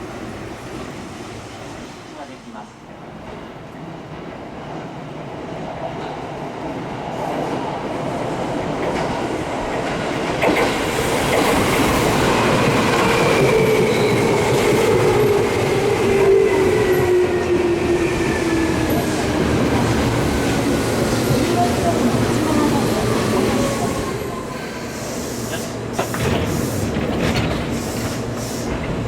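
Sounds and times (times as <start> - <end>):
train wheels rolling on rails: 3.0 - 29.0.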